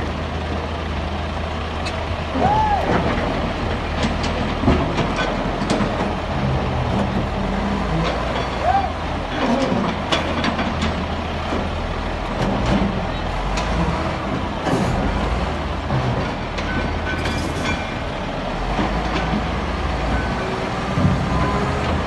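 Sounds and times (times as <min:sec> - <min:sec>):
heavy diesel machinery running: 0:00.0 - 0:22.0
metal knocks and clanks: 0:01.8 - 0:08.7, 0:09.3 - 0:15.2, 0:15.8 - 0:22.0.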